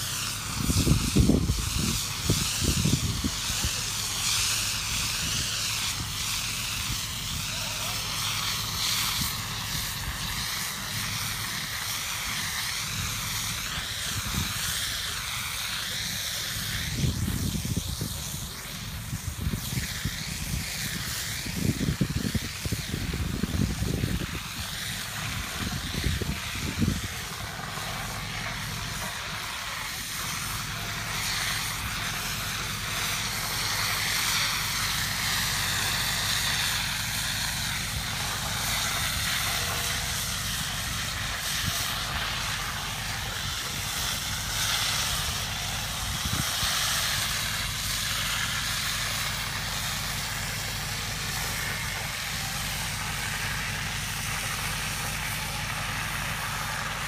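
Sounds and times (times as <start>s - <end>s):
fire engine pump drone: 0.0s - 57.0s
high-pressure water jet hissing: 0.0s - 57.0s.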